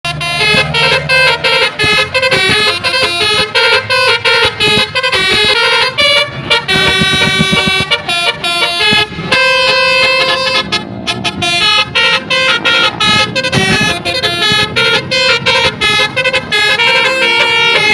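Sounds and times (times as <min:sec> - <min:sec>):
air horns playing a tune: 0:00.1 - 0:17.9.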